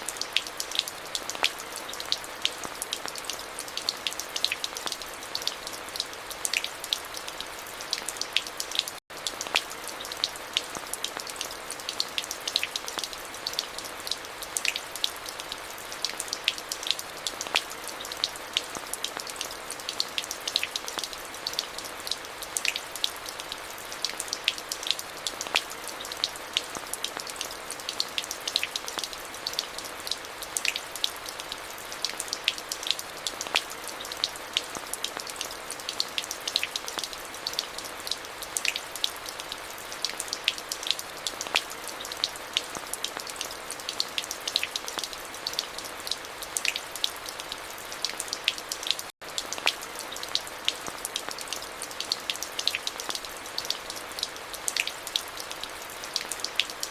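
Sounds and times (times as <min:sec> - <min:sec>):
rain on hard surface: 0:00.0 - 0:56.9.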